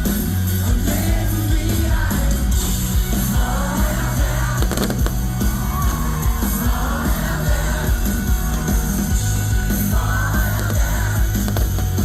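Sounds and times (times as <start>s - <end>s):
heavy bass: 0.0s - 12.0s
live pop band through loudspeakers: 0.0s - 12.0s
crowd yelling: 0.6s - 12.0s
person singing: 0.6s - 12.0s.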